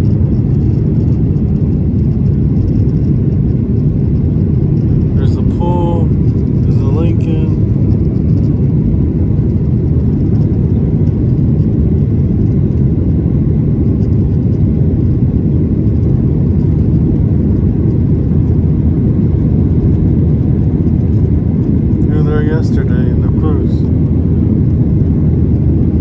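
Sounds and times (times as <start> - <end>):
jet cabin engine rumble: 0.0 - 26.0.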